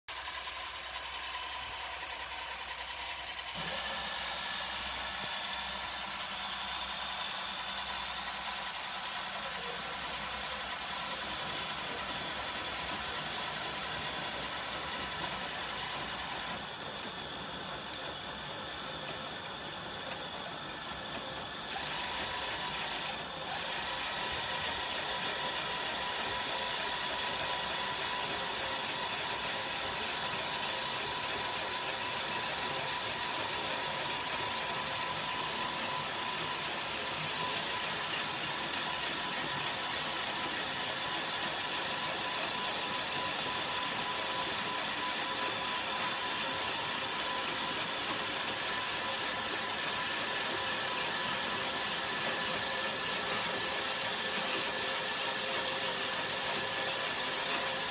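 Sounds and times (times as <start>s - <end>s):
small engine running: 0.0s - 57.9s
steady whine: 0.1s - 57.9s.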